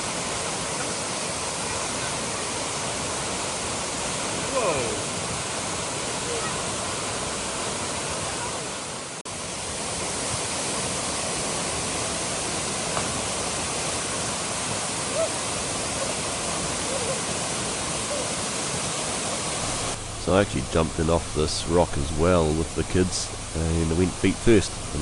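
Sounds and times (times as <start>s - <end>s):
waterfall pouring into pool: 0.0s - 25.0s.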